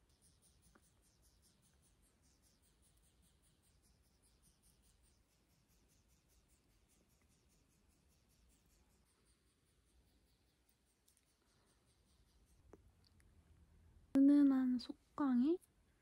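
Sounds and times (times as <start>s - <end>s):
faint high-pitched ticks: 0.0s - 13.4s.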